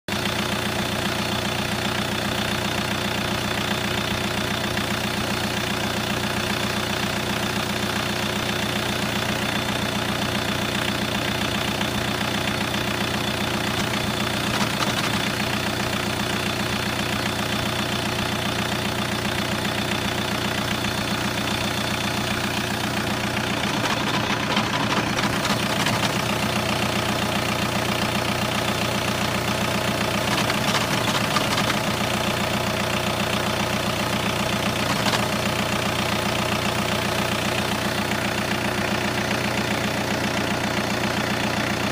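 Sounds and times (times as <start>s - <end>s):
diesel engine idling with clatter: 0.1s - 41.9s
strange engine noise: 0.2s - 41.9s.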